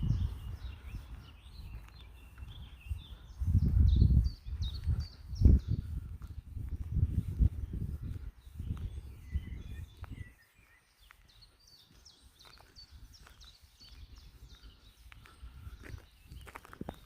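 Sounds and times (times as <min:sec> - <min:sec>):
small birds chirping and trilling: 0:00.0 - 0:17.0
wind rumble on microphone: 0:00.0 - 0:17.0.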